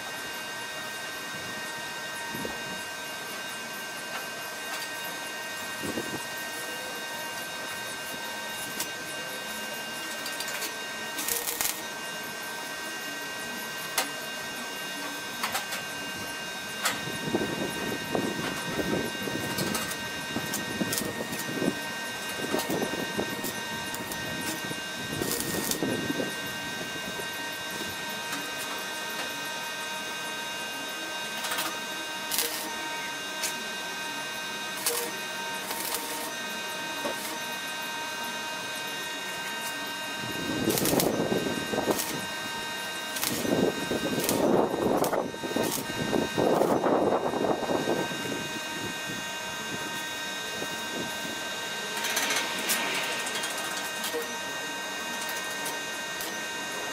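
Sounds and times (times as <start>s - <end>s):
steady hum: 1.0s - 56.9s
welding crackles: 7.3s - 12.3s, 14.8s - 30.7s, 31.3s - 56.9s.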